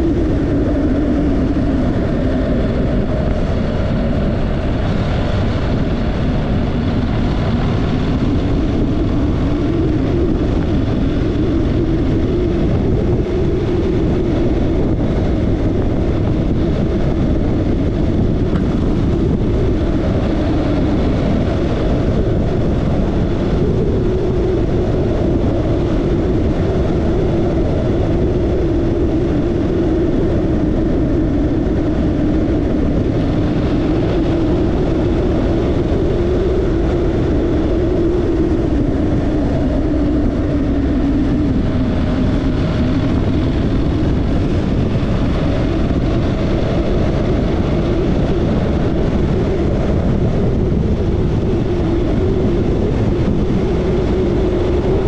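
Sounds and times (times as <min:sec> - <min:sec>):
rushing wind noise: 0:00.0 - 0:55.0.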